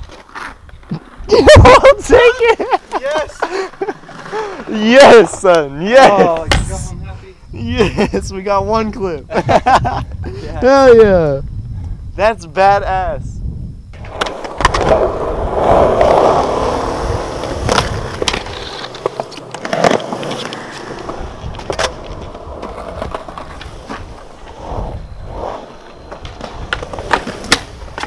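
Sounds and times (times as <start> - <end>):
skateboard wheels rolling on concrete: 0.0 - 28.0.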